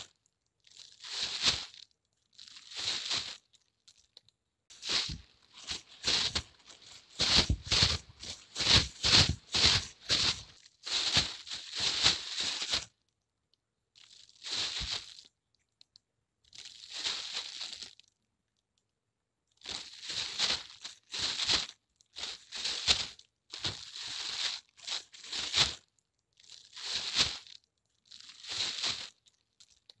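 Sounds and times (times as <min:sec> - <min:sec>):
plastic bag crinkling: 0:00.0 - 0:13.0, 0:14.0 - 0:15.3, 0:16.5 - 0:18.1, 0:19.6 - 0:30.0.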